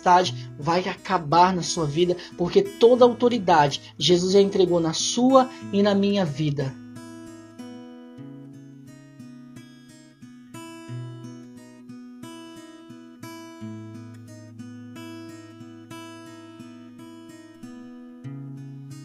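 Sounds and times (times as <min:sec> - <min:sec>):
acoustic guitar picked chords: 0:00.0 - 0:19.0.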